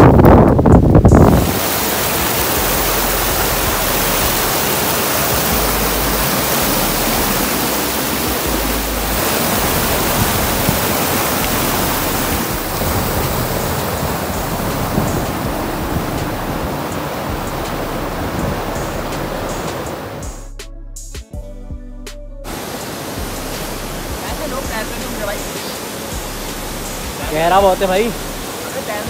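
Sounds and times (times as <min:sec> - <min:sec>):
stream rushing over boulders: 0:00.0 - 0:20.3, 0:22.5 - 0:29.0.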